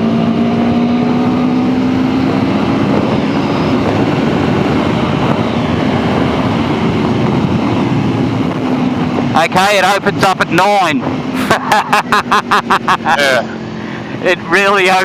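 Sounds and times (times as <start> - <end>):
heavy wind rush: 0.0 - 15.0.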